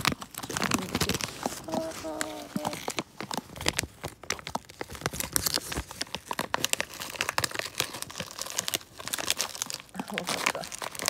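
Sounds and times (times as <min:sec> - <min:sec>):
plastic pouch crinkling: 0:00.0 - 0:11.0.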